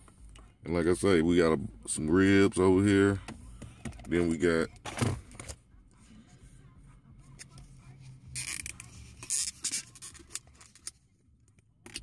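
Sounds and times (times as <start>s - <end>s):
low steady car cabin hum: 0.0s - 11.9s.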